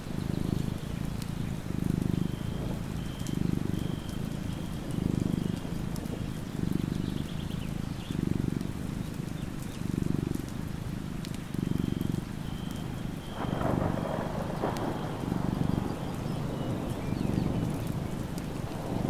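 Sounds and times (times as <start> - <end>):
cat purring: 0.0 - 19.0
faint rain patter: 0.0 - 19.0.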